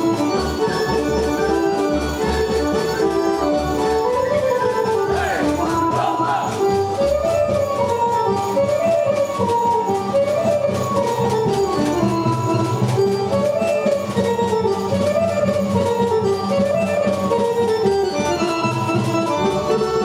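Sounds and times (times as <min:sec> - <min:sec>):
folk instrumental ensemble: 0:00.0 - 0:20.0.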